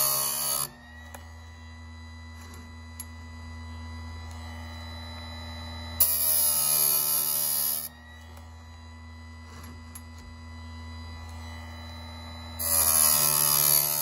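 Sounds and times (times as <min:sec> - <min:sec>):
grinding wheel grinding metal: 0:00.0 - 0:03.3, 0:04.2 - 0:14.0
motor humming: 0:00.0 - 0:14.0.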